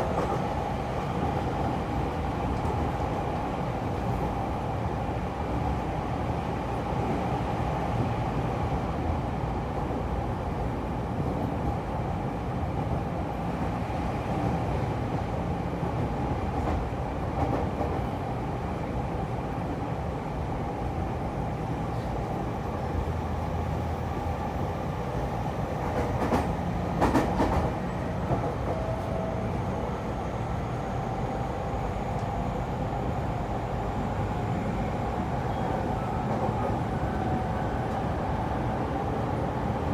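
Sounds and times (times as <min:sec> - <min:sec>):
train interior rumble and hiss: 0:00.0 - 0:39.9.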